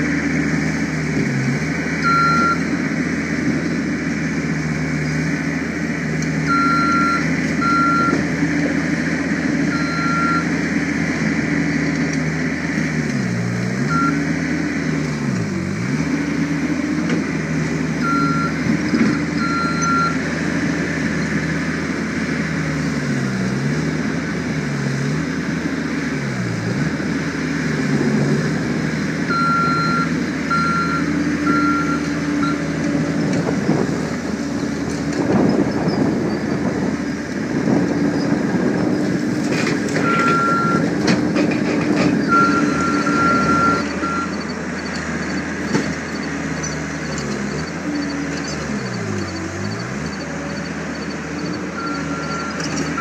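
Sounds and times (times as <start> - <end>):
diesel engine under load: 0.0 - 53.0.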